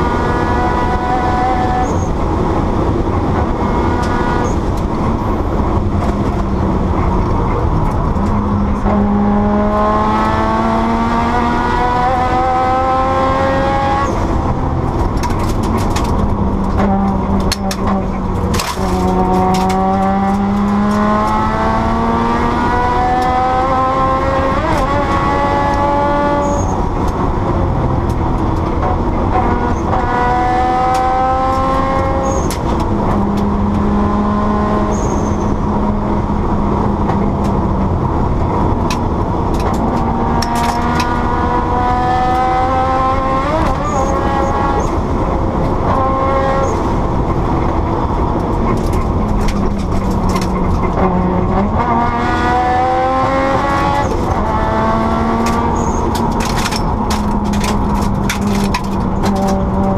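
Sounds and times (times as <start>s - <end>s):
rally car engine accelerating: 0.0s - 59.9s.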